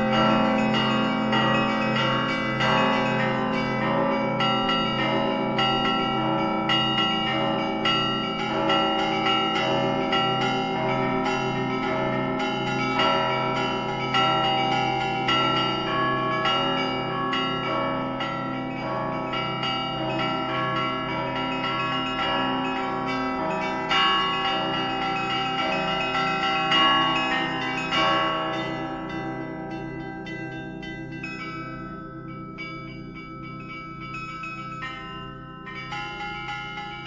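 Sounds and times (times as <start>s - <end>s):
large low bells ringing: 0.0s - 37.0s
small high bells ringing: 0.0s - 37.0s.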